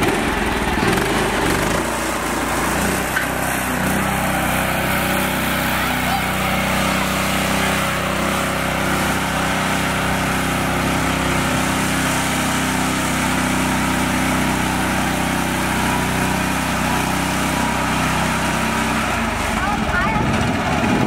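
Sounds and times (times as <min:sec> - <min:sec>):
small tractor engine running: 0:00.0 - 0:21.0.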